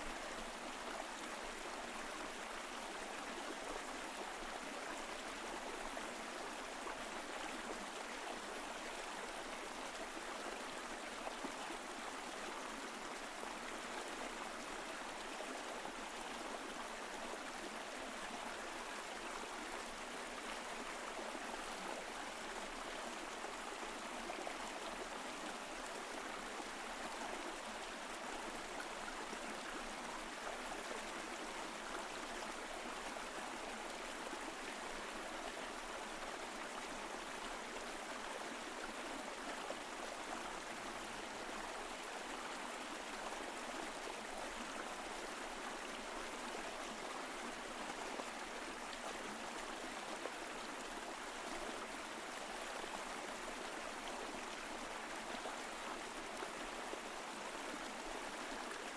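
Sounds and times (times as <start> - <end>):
stream flowing over rocks: 0.0 - 58.9.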